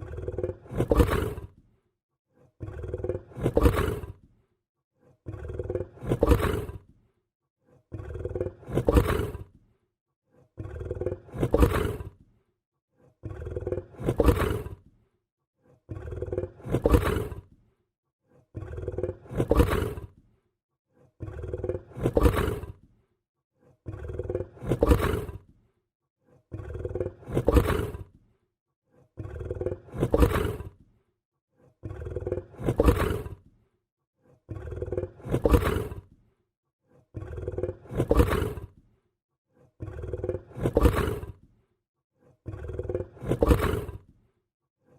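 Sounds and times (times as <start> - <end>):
lion growling: 0.0 - 23.0, 23.6 - 41.6, 42.2 - 44.9.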